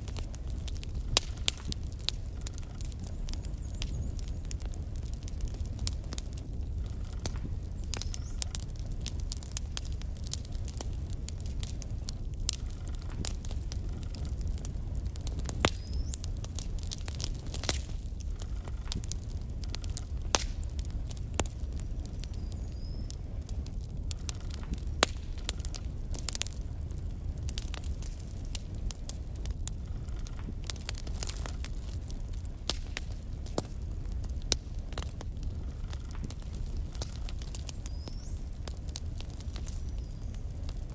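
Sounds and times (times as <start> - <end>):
fire crackling: 0.0 - 40.9
fire rumbling: 0.0 - 40.9
wood popping: 0.1 - 40.8.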